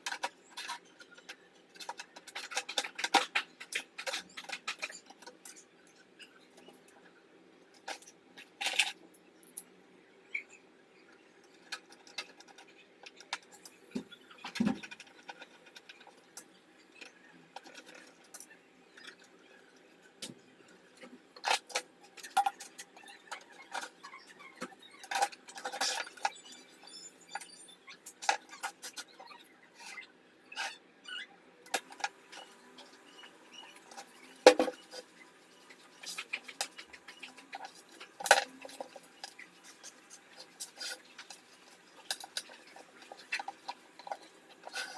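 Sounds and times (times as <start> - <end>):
small hard parts clicking: 0.0 - 5.6, 11.4 - 29.3, 31.6 - 44.9.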